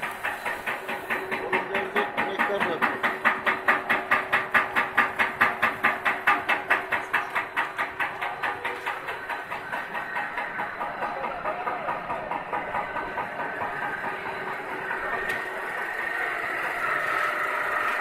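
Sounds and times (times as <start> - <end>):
machinery hum: 0.0 - 18.0
machinery knocking rapidly: 0.0 - 18.0.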